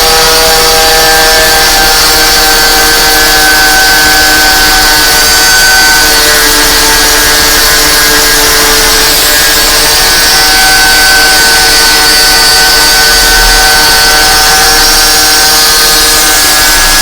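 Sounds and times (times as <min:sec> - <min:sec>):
angle grinder motor whine: 0:00.0 - 0:17.0
stone grinding on metal: 0:00.0 - 0:17.0.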